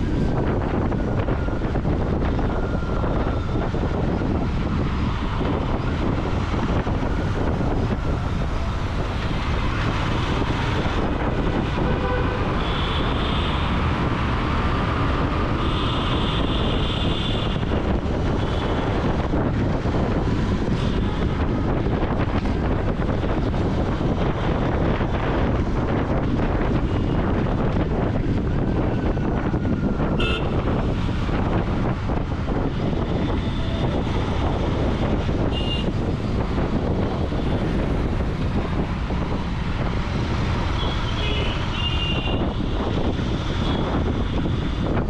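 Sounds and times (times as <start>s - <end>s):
wind on microphone: 0.0s - 45.0s.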